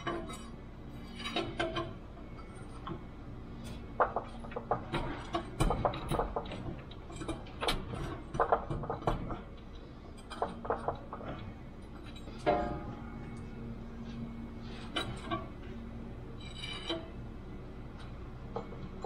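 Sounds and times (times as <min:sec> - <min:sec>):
metal clanks and clicks: 0:00.0 - 0:15.8, 0:18.0 - 0:19.0
steady low hum: 0:00.0 - 0:19.0.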